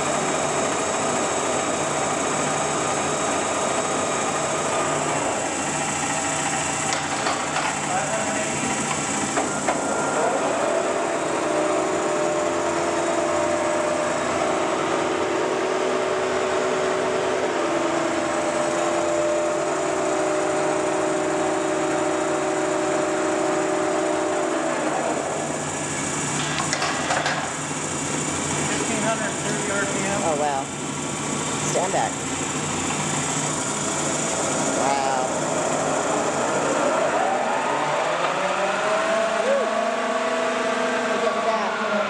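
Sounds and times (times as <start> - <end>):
motor hum: 0.0 - 40.0
lathe gear whine: 0.0 - 42.0.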